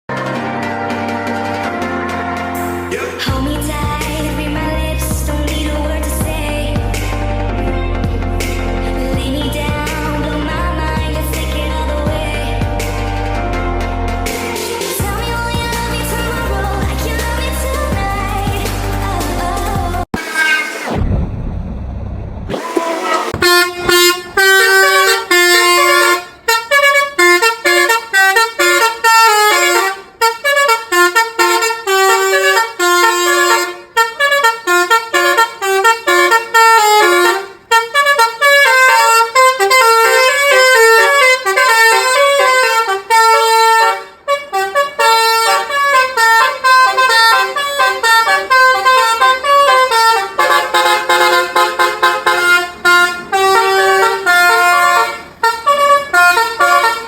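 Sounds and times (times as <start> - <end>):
multi-tone bus horn tune: 0.1 - 21.0, 22.5 - 57.0.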